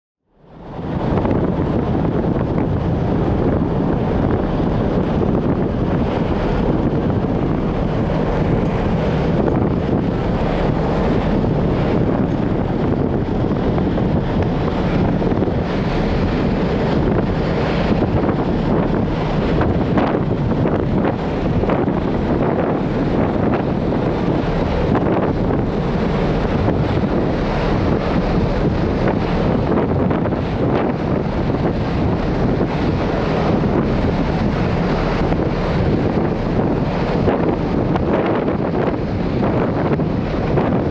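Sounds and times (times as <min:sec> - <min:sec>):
wind rushing over microphone: 0:00.3 - 0:40.9.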